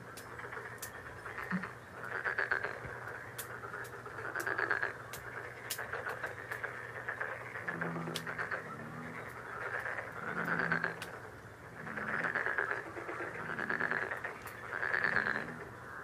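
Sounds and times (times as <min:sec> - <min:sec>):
animals calling in pulsed trills: 0:00.0 - 0:16.0.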